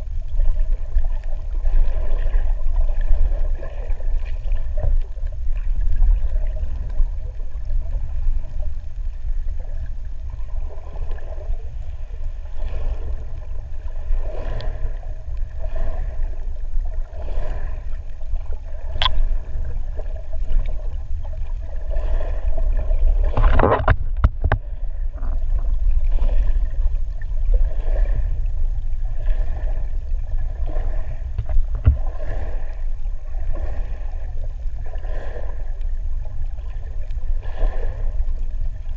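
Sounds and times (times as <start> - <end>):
muffled underwater rumble: 0.0 - 38.9
water swishing: 0.0 - 38.9.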